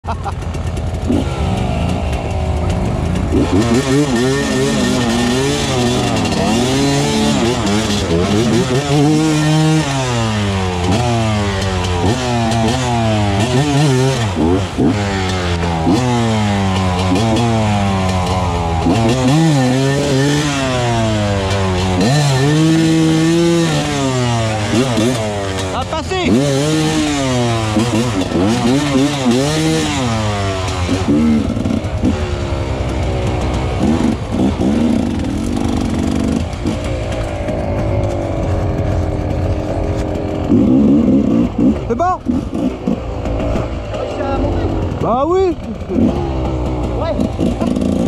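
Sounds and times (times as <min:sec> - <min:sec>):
dirt bike engine revving: 0:00.1 - 0:48.0.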